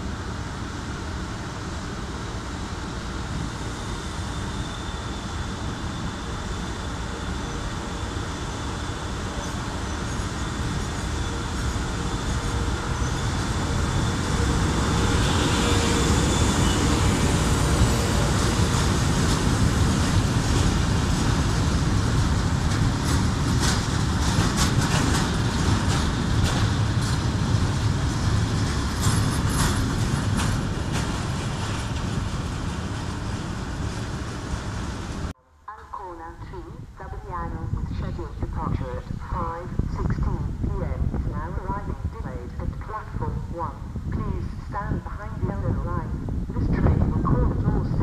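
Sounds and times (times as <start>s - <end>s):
train wheels rumbling on rails: 0.0s - 35.4s, 37.4s - 48.0s.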